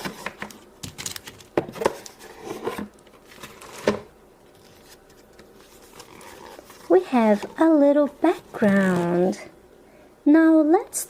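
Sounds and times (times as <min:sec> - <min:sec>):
cardboard and paper packaging rustling: 0:00.0 - 0:09.4.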